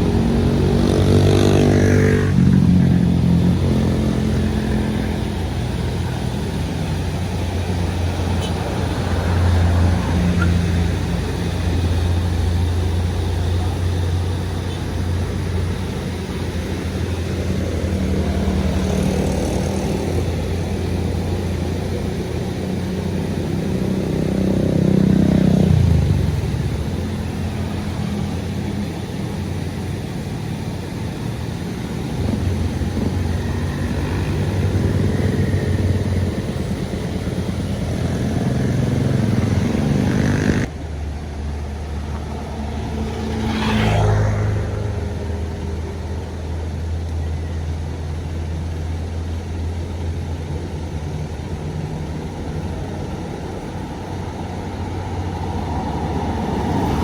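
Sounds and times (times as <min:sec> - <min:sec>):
buses and trucks passing: 0:00.0 - 0:57.0.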